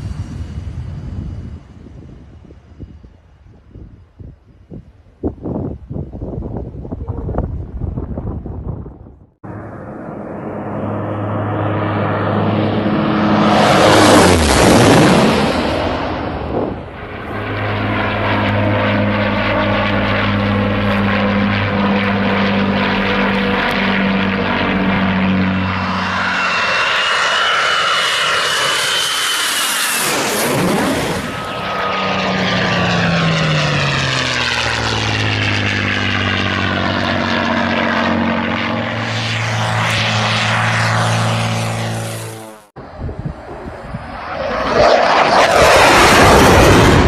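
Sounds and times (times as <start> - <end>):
jet flyby whine: 0.0 - 4.0, 9.4 - 47.0
propellers droning: 0.0 - 5.2, 8.8 - 47.0.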